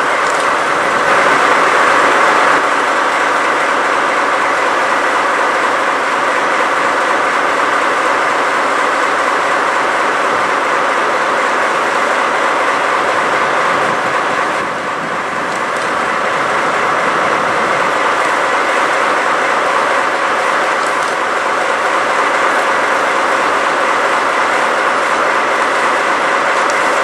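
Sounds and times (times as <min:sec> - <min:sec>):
diesel locomotive idling: 0:00.0 - 0:27.0.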